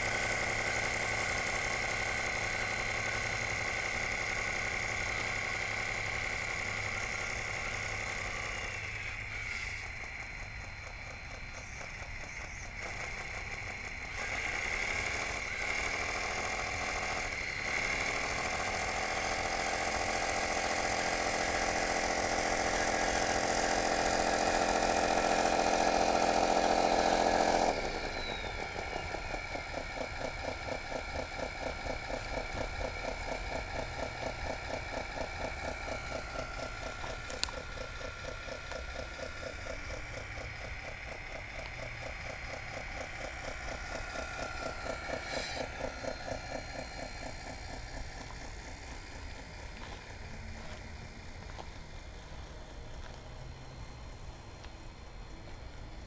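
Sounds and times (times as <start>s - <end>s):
fast pulsing rattle: 0.0s - 56.0s
toy motor whining: 0.0s - 56.0s.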